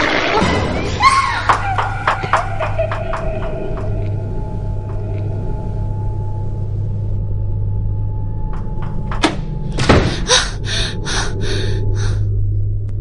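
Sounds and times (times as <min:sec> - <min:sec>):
low steady drone: 0:02.0 - 0:13.0.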